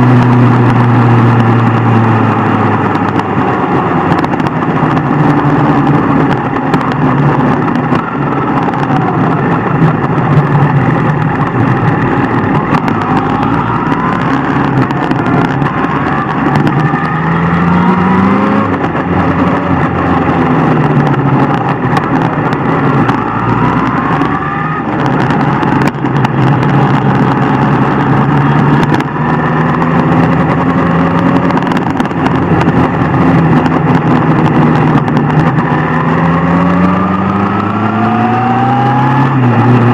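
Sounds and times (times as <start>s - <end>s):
motorbike engine revving: 0.0s - 39.9s
steady rushing noise: 0.0s - 39.9s.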